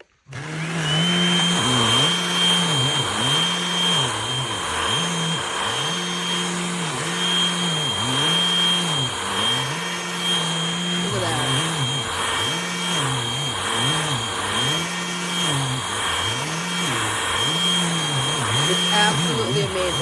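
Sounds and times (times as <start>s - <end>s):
handheld vacuum running: 0.0s - 20.0s.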